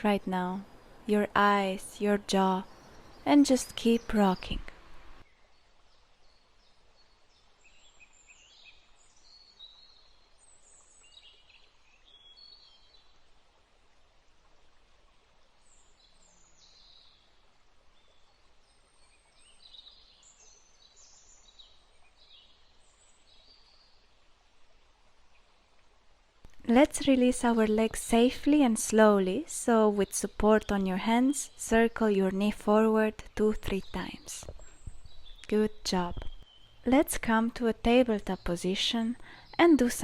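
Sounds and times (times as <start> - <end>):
faint birdsong: 0.0 - 40.0.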